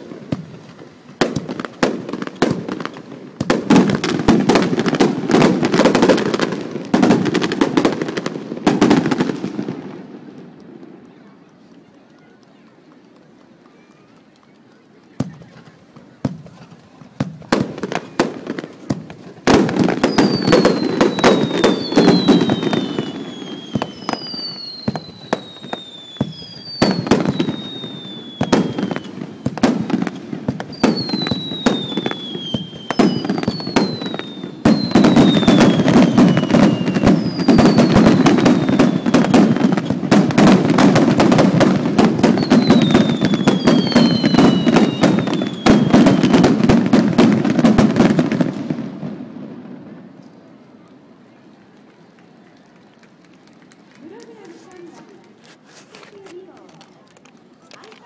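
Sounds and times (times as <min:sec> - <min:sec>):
whistling fireworks falling in pitch: 0:00.0 - 0:56.2
fireworks cracking and popping: 0:00.0 - 0:58.0.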